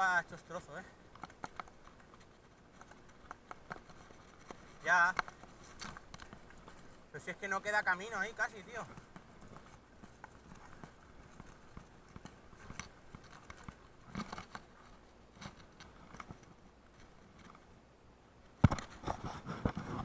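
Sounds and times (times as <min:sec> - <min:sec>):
rocks clicking and knocking: 0:00.0 - 0:17.7, 0:18.5 - 0:20.0.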